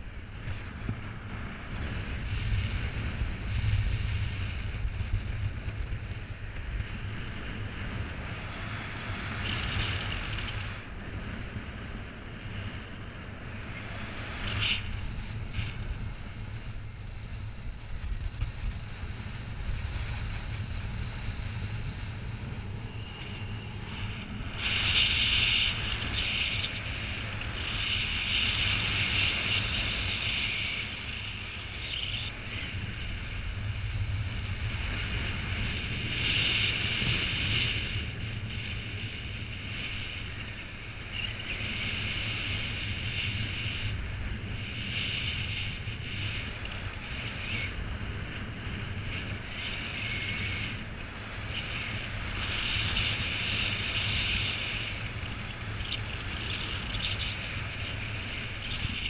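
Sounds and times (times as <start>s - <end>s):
wind hiss: 0.0s - 59.0s
wind rumble on microphone: 0.0s - 59.0s.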